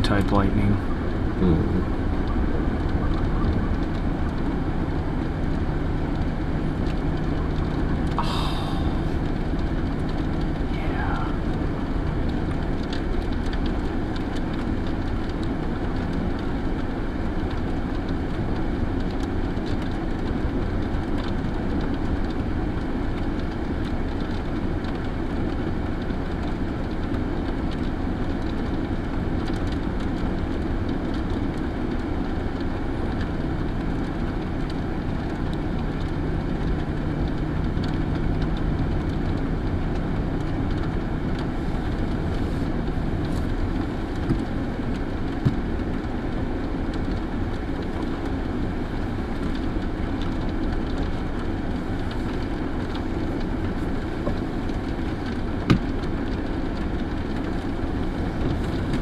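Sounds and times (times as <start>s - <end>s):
low steady hum: 0.0s - 59.0s
vehicle idling: 0.0s - 59.0s
wind: 0.0s - 59.0s.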